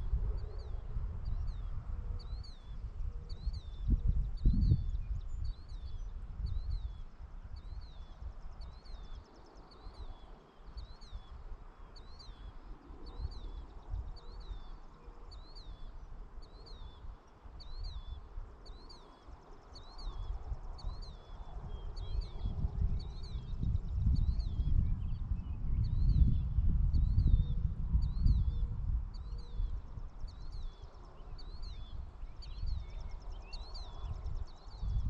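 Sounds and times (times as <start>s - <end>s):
bird chirping: 0.4s - 35.0s.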